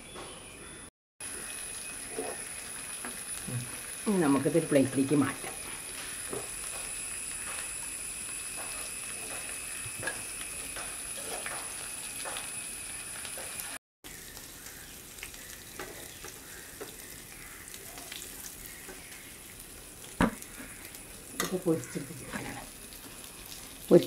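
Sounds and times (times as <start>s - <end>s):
oil sizzling in a frying pan: 1.2s - 24.0s.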